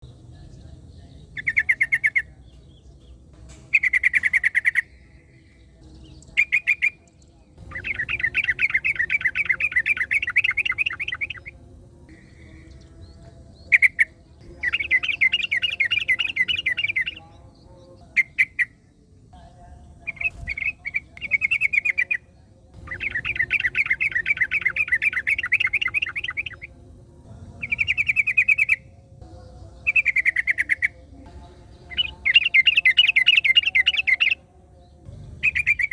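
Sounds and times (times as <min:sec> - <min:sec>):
bird chattering song: 0:00.0 - 0:35.9.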